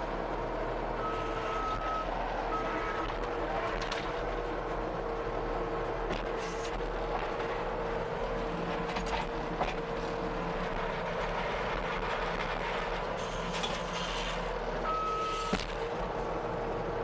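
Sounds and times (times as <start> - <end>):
engine running with whine: 0.0 - 17.0.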